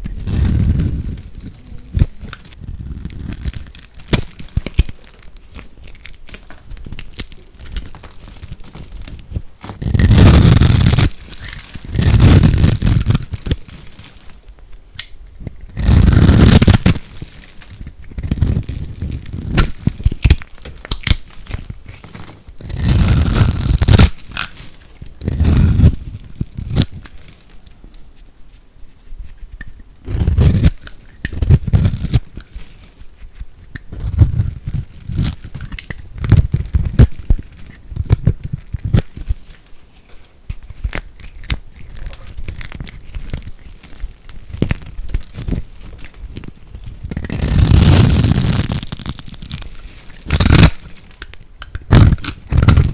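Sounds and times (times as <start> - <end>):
dry soap crunching: 0.0 - 28.0, 29.4 - 52.9.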